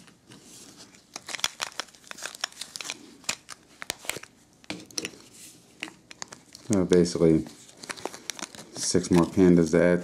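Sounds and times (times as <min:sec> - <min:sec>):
plastic sleeve crinkling: 0:00.0 - 0:10.0.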